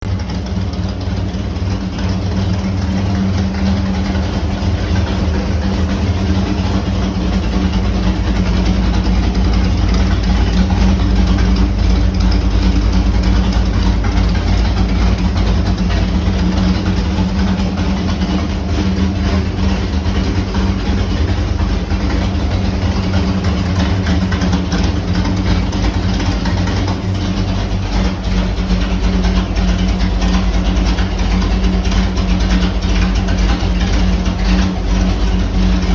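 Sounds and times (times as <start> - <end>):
engine idling: 0.0 - 35.9.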